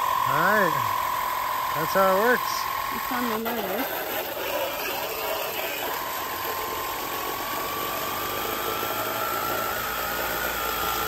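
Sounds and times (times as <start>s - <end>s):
electric pump motor whine: 0.0s - 11.0s
water jet hissing on siding: 0.0s - 11.0s.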